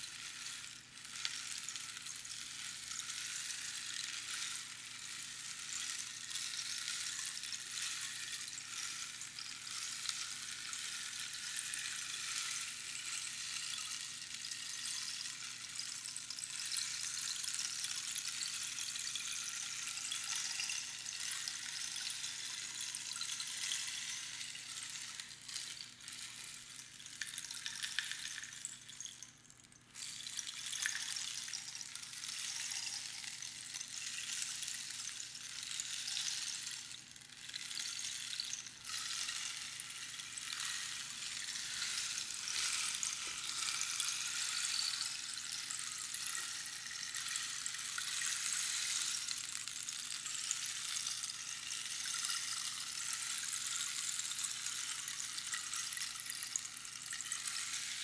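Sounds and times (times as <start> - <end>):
rainstick pebbles trickling: 0.0 - 58.0.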